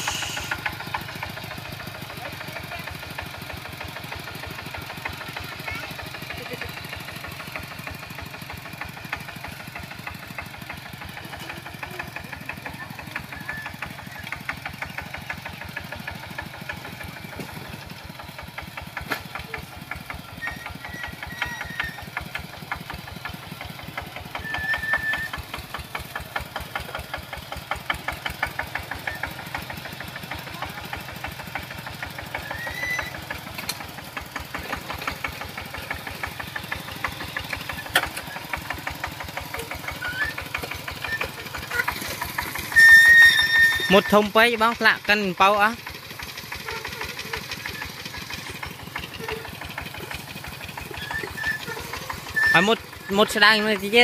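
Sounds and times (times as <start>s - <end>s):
diesel tiller engine knocking: 0.0s - 54.0s.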